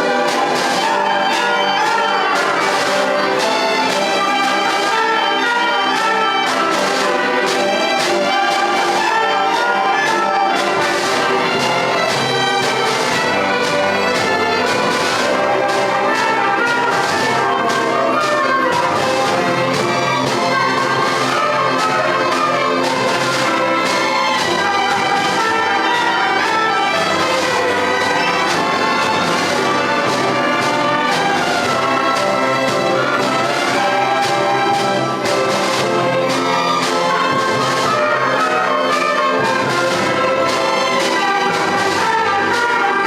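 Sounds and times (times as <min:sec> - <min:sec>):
concert band playing: 0:00.0 - 0:43.0
trumpets and trombones: 0:00.0 - 0:43.0.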